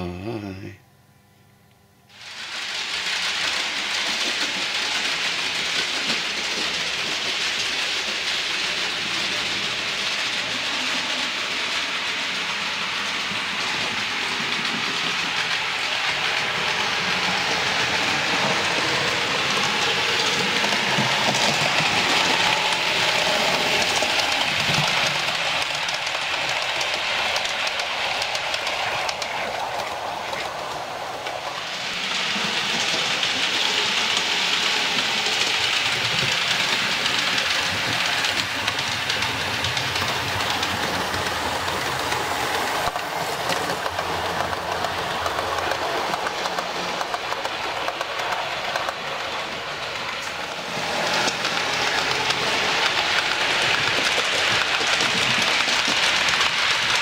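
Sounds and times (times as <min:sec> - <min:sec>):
model train wheels clattering: 0:02.2 - 0:57.0.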